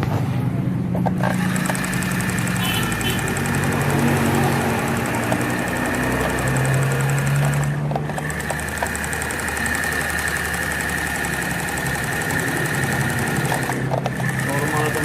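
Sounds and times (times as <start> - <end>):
sewing machine motor whining: 1.2 - 15.0.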